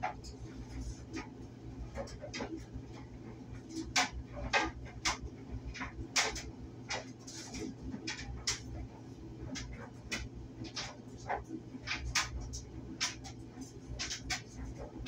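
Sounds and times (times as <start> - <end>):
clothes dryer humming: 0.0 - 15.0.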